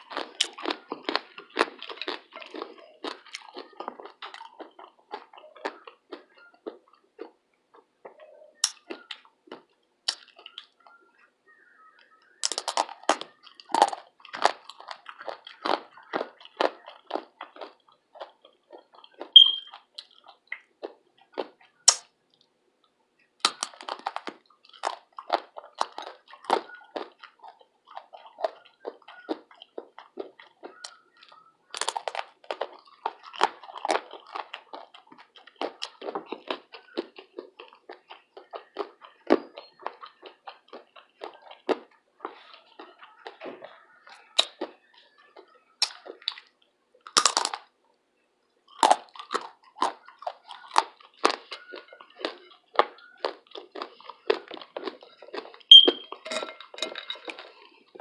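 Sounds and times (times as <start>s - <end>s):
chewing and crunching food: 0.0s - 58.0s.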